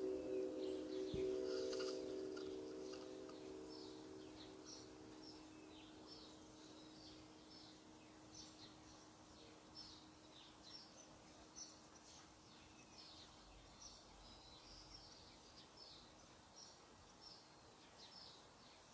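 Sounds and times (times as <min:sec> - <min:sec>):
background hiss: 0:00.0 - 0:18.9
faint birdsong: 0:00.0 - 0:18.9.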